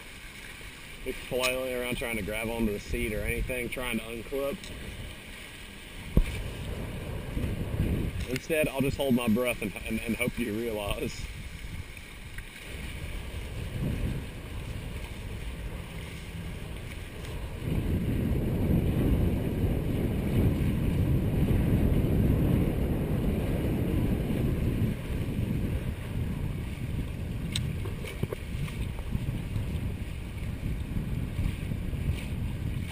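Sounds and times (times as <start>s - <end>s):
water rushing along hulls: 0.0s - 32.9s
wind buffeting microphone: 1.0s - 32.9s.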